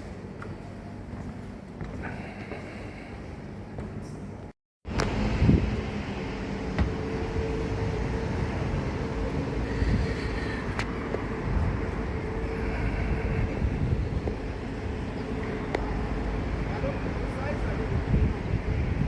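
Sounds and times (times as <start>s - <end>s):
vehicle rumble: 1.0s - 19.0s.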